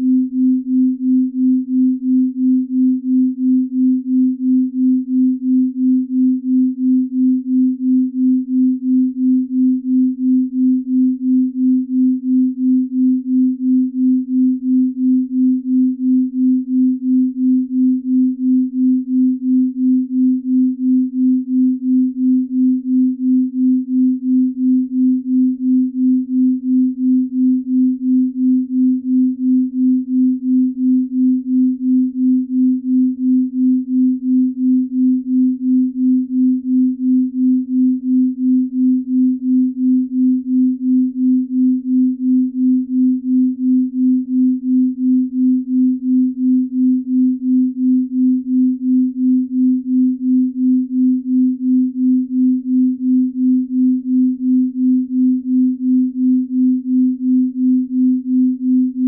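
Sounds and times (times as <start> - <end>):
pulsing pure tone: 0.0 - 59.0.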